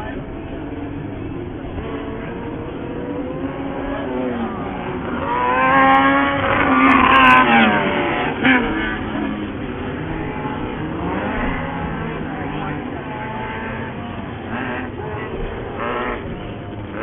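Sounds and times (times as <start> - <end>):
buggy engine revving past: 0.1 - 17.0.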